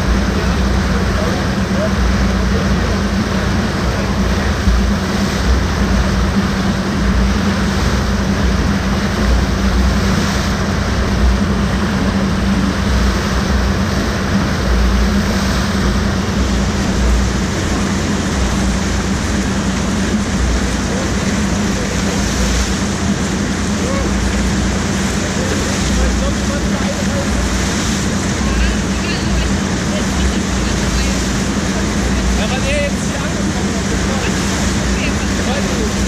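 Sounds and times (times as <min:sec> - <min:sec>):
rushing churning water: 0:00.0 - 0:36.0
steady low hum: 0:00.0 - 0:36.0.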